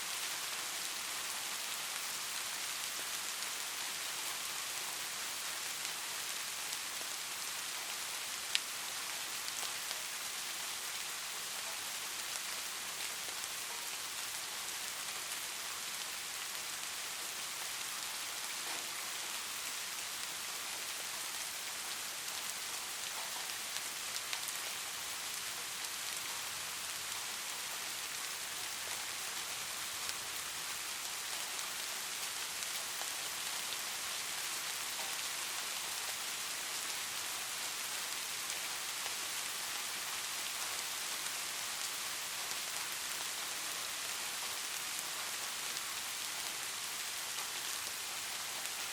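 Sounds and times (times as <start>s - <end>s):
light rain falling: 0.0s - 48.9s.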